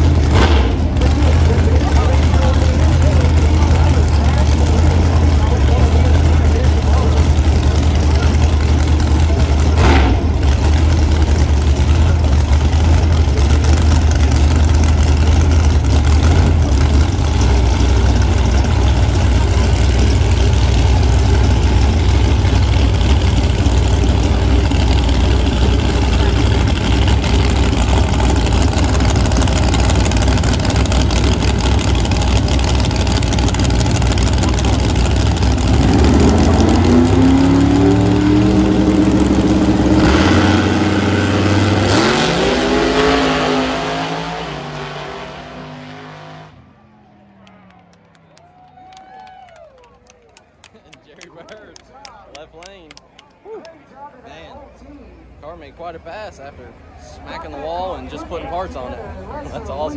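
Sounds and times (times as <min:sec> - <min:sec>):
drag racing engines revving: 0:00.0 - 0:48.3.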